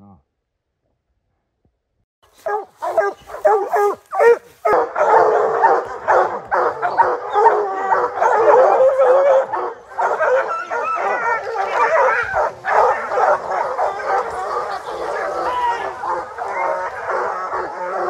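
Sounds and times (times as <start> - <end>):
hounds baying: 2.4 - 18.0.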